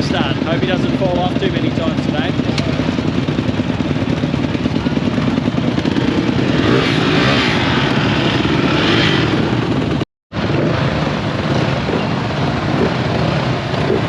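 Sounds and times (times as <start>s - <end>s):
dirt bike engines running: 0.0s - 14.0s.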